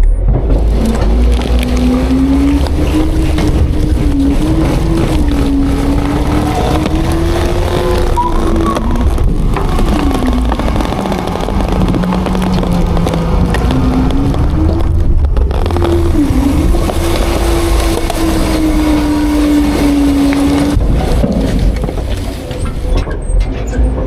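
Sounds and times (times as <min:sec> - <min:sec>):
garbage truck diesel engine running: 0:00.0 - 0:24.0.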